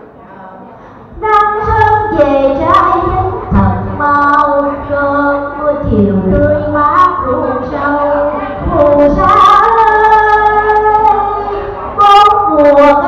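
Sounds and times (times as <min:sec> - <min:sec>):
woman singing into a microphone: 0:01.1 - 0:13.0.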